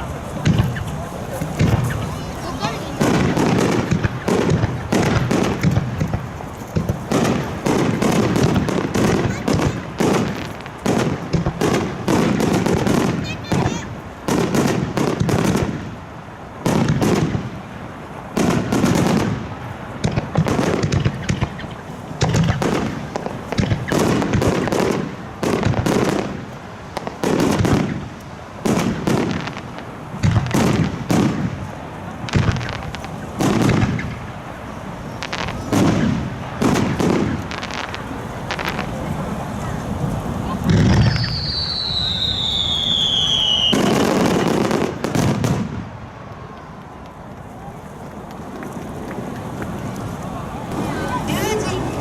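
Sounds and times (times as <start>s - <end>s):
fireworks booming: 0.0s - 52.0s
fireworks crackle: 0.0s - 52.0s.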